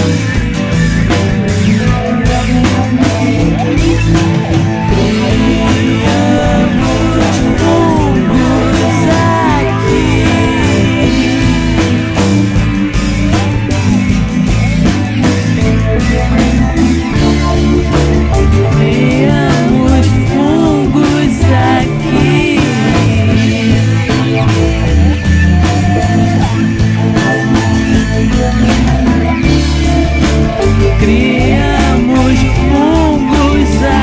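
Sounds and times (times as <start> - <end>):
drum beat: 0.0 - 34.0
electric guitar lead: 0.0 - 34.0
psychedelic rock music: 0.0 - 34.0.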